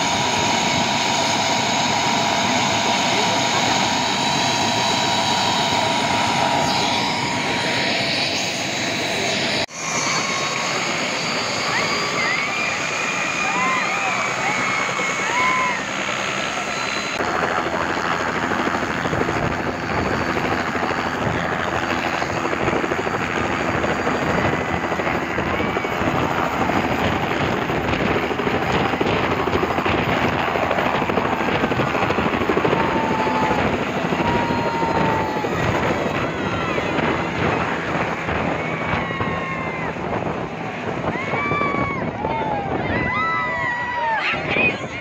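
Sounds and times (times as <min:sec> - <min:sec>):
helicopter rotor chop: 0:00.0 - 0:45.0
helicopter turbine whine: 0:00.0 - 0:45.0.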